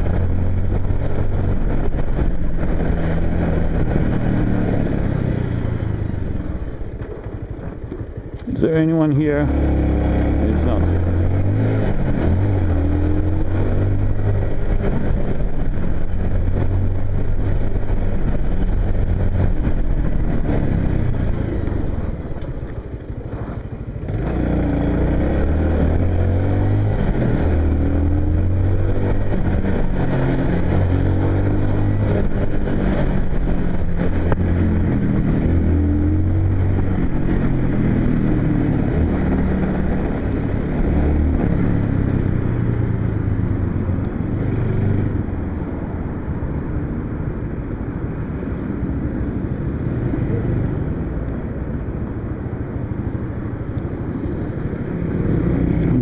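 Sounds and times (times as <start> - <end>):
two-stroke motorcycle engine: 0.0 - 45.5.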